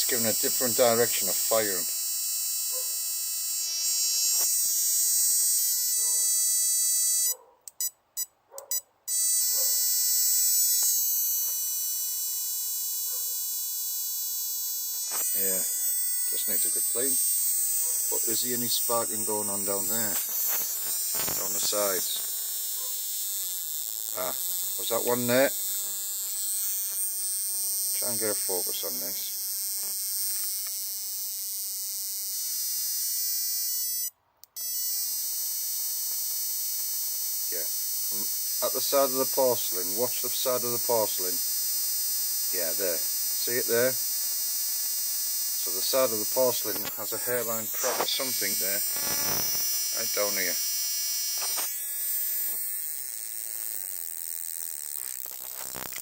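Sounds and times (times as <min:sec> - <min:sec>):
spark plug tester buzzing: 0:00.0 - 0:56.0.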